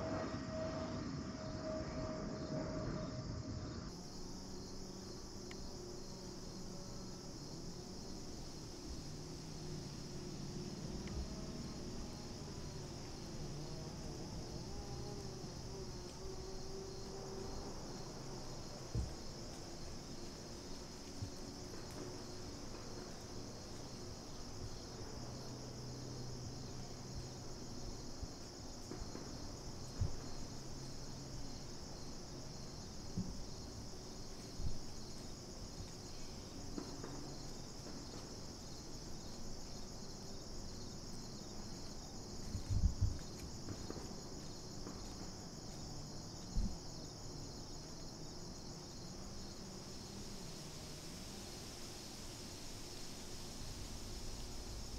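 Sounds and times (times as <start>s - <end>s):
crickets and insects trilling: 0.0s - 54.9s.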